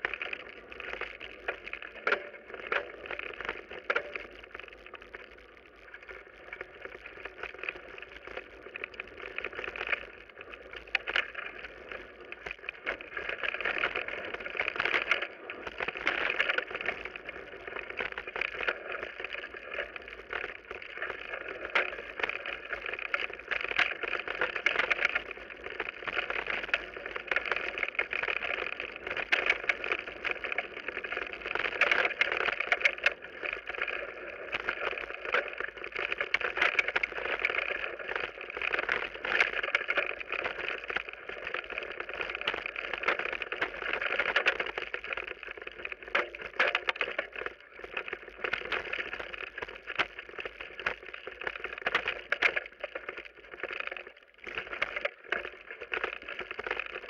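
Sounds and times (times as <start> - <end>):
bike rattling over rough ground: 0.0 - 57.0.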